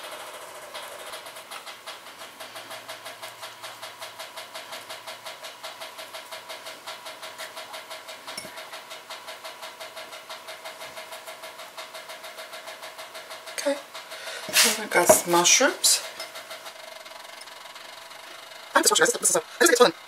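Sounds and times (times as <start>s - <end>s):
machine humming with rapid pulse: 0.0s - 20.0s.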